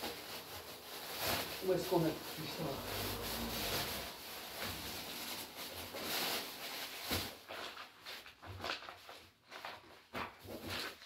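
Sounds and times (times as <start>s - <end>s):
rustling through belongings: 0.0s - 11.0s.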